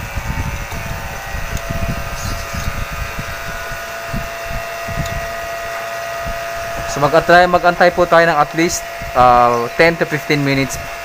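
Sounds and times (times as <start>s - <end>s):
thin steady whine: 0.0s - 11.0s
vacuum pump running: 0.0s - 11.0s.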